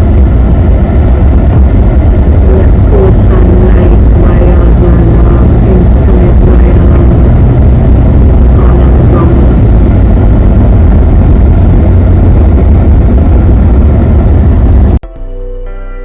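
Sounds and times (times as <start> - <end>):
moving car rumble: 0.0 - 15.0.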